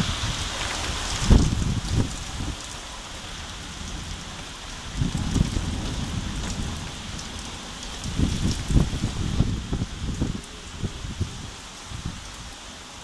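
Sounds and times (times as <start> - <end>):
thunder rumbling: 0.0 - 2.6, 3.4 - 12.1
rain falling: 0.0 - 13.0.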